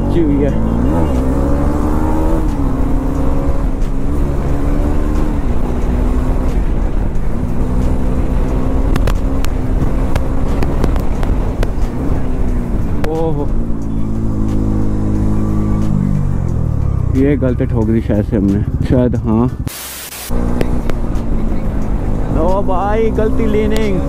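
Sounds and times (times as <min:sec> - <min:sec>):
motorcycle engine: 0:00.0 - 0:24.0.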